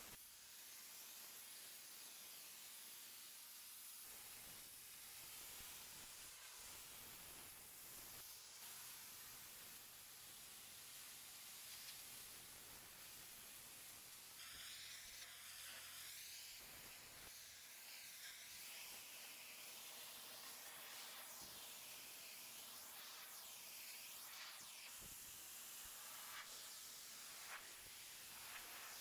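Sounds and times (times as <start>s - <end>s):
pressure washer spraying stone: 0.0s - 29.0s.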